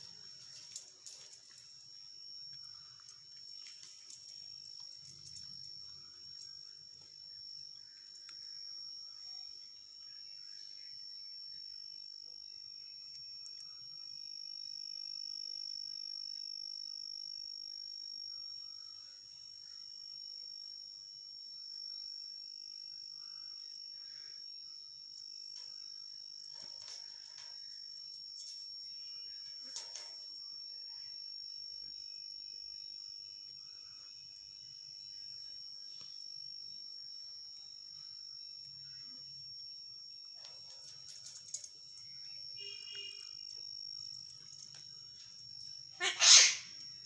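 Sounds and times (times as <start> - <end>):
high-pitched insect trill: 0.0 - 47.0.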